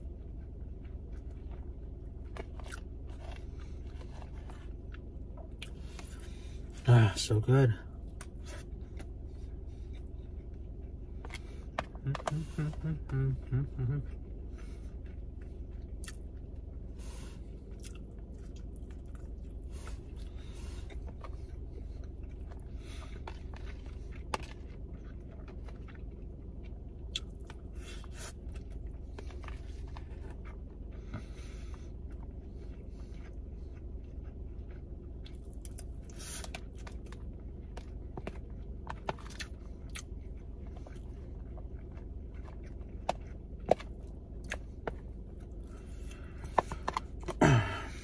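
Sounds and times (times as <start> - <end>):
person chewing: 0.0 - 6.8, 7.9 - 48.0
low hum: 0.0 - 48.0.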